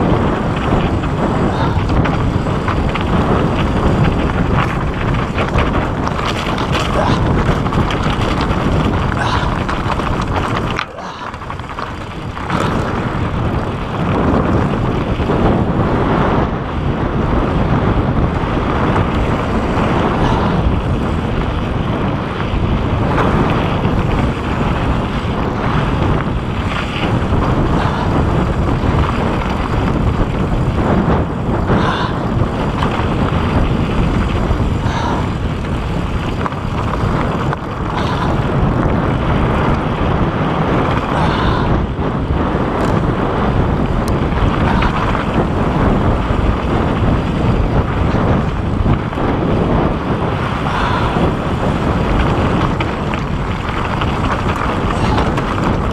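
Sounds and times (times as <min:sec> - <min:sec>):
bike tyres rumbling on rocky trail: 0:00.0 - 0:55.9
wind on microphone: 0:00.0 - 0:55.9.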